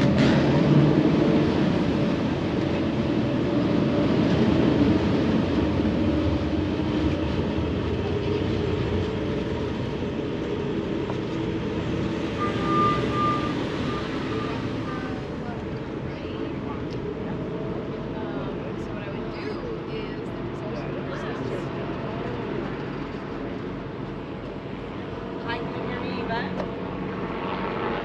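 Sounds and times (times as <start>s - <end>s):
ferry engines droning: 0.0s - 28.0s.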